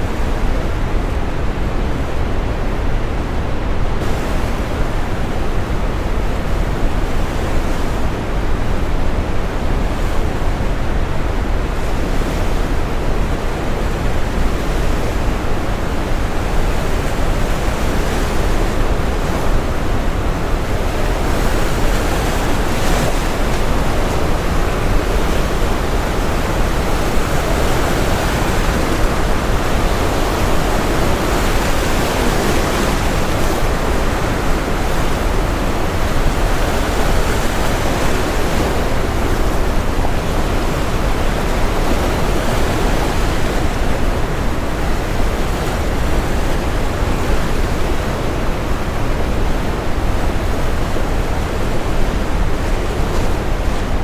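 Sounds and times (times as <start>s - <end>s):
ocean waves breaking: 3.9s - 54.0s.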